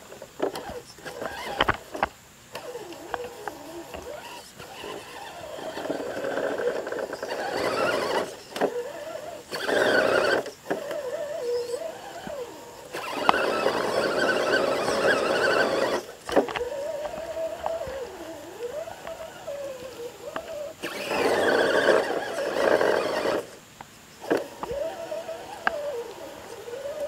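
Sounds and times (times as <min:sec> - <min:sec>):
toy truck motor whining: 0:00.4 - 0:23.6, 0:24.2 - 0:27.0
tires driving through mud: 0:02.6 - 0:23.6, 0:24.2 - 0:27.0.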